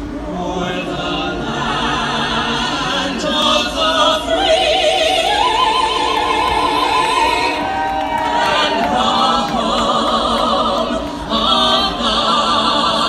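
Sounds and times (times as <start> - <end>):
choir singing with vibrato: 0.0 - 13.0.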